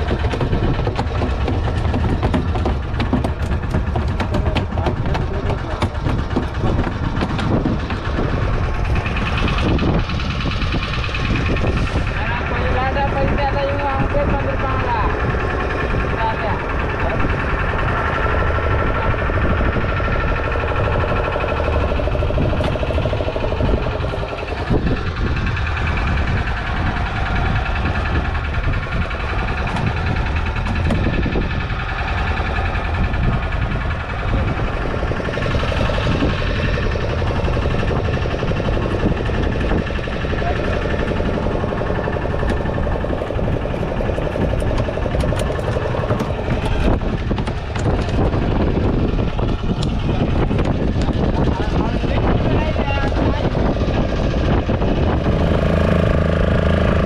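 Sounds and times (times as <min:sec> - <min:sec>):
boat engine idling: 0:00.0 - 0:57.0.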